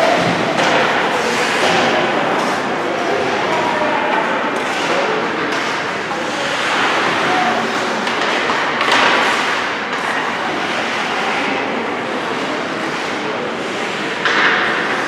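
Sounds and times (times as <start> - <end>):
hockey game din: 0.0 - 15.0.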